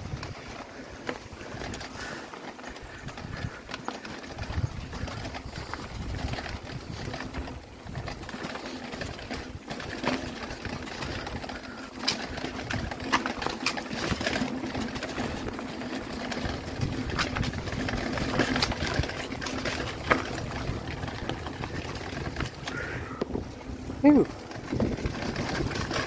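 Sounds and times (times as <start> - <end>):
bike rattling: 0.0 - 26.0
tyres on gravel: 0.0 - 26.0
wheels knocking on stones: 0.0 - 26.0.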